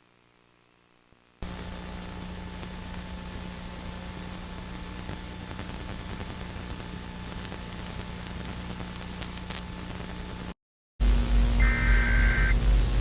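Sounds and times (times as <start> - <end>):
static hiss: 0.0 - 13.0.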